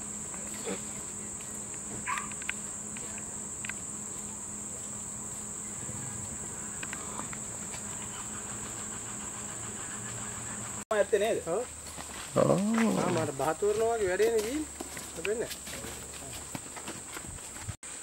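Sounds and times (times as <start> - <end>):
high-pitched insect chorus: 0.0 - 17.3.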